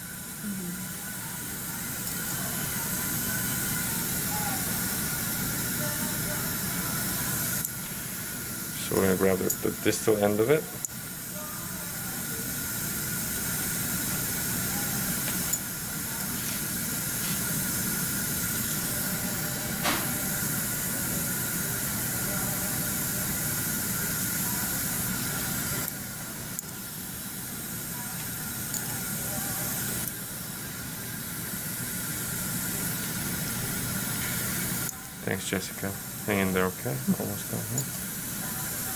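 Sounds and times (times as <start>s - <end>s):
dental suction hissing: 0.2s - 38.9s.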